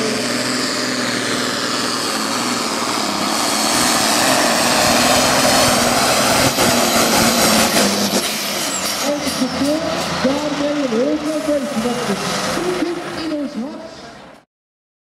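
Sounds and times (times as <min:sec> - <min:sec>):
diesel tractor engine running flat out: 0:00.0 - 0:14.3.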